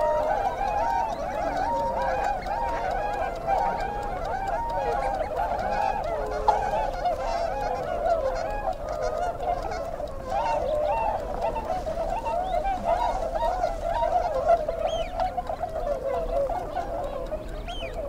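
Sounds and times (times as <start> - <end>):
flock of birds calling: 0.0 - 18.0.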